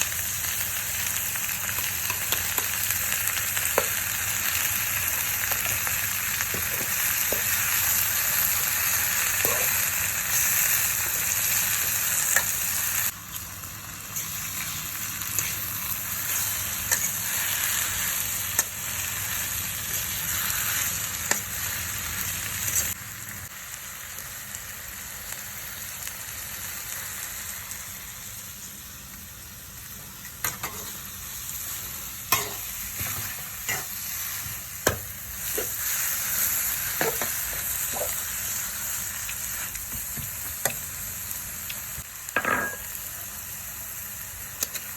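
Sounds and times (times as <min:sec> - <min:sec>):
food sizzling in frying: 0:00.0 - 0:44.9.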